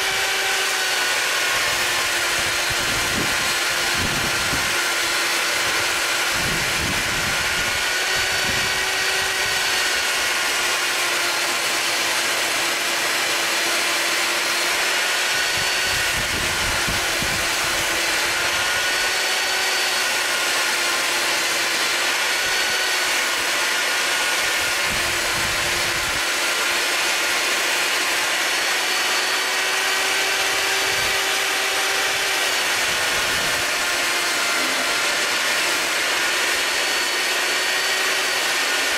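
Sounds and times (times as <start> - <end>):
table saw cutting board: 0.0 - 38.9.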